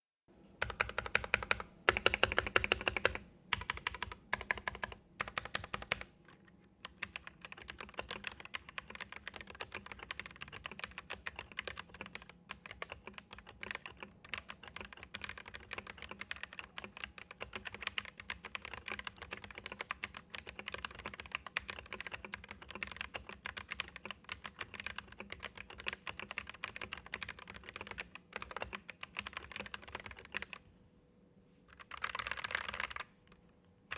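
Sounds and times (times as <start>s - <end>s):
mechanical keyboard typing: 0.6s - 30.6s, 31.7s - 33.9s.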